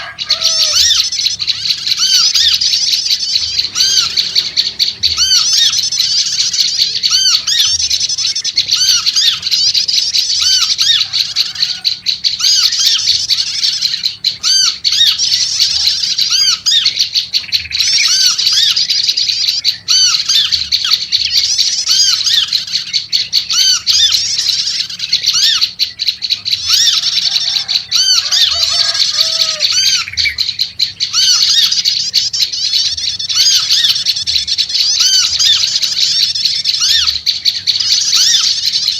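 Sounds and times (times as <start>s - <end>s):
bird chirping rapidly: 0.0s - 38.9s
lower fuller bird notes: 0.0s - 38.9s.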